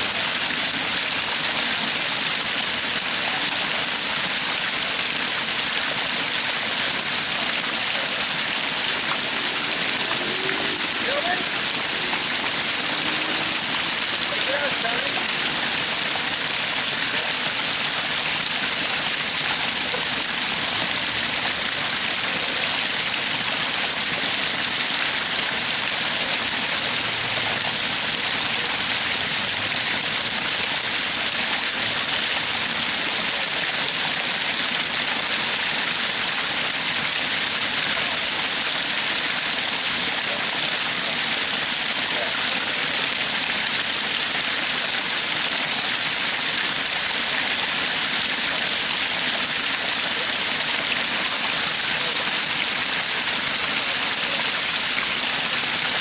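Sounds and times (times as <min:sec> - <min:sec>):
waterfall splashing into pond: 0:00.0 - 0:56.0.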